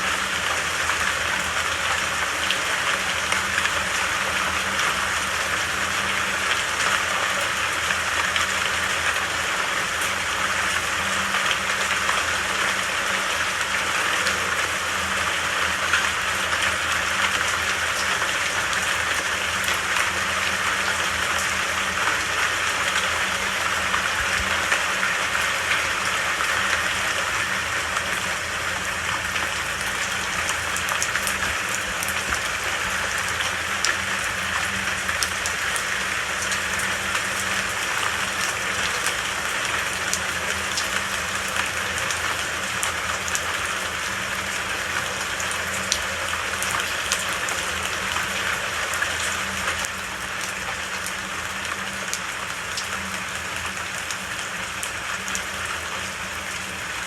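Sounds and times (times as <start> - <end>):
rain hissing: 0.0 - 57.0
raindrops ticking: 0.1 - 57.0.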